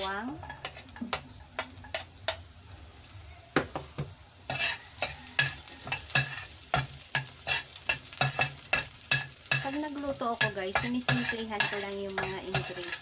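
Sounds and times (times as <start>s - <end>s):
spoon clinking and scraping pan: 0.0s - 2.5s, 4.5s - 13.0s
garlic sizzling in hot oil: 0.0s - 13.0s.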